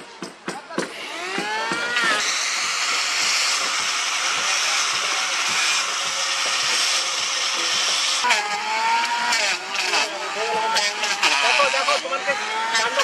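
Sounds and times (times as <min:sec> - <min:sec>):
angle grinder sanding wood: 0:00.9 - 0:13.0.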